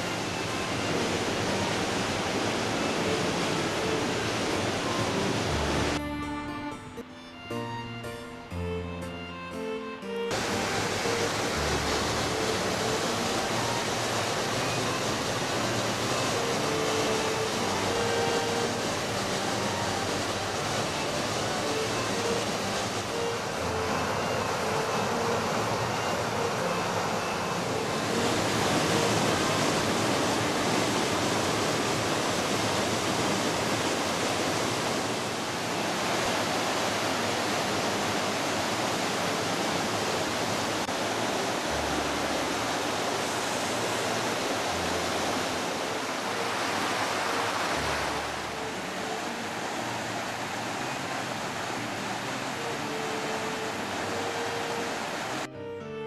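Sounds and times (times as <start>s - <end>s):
waterfall rushing: 0.0s - 6.0s, 10.3s - 55.5s.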